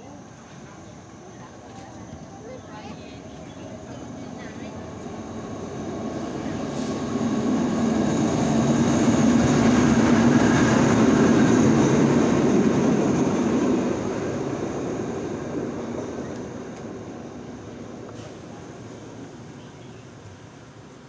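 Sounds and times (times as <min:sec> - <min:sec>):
diesel locomotive passing slowly: 0:00.0 - 0:21.0.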